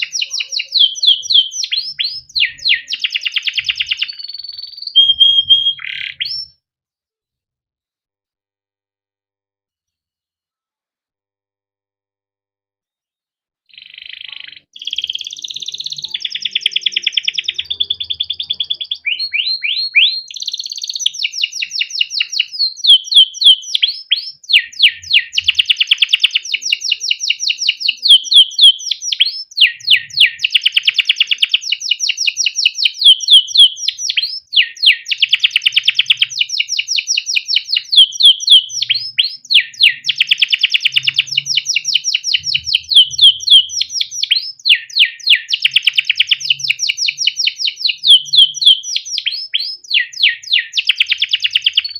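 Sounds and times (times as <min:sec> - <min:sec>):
canary singing trills: 0:00.0 - 0:06.6, 0:13.7 - 0:51.9.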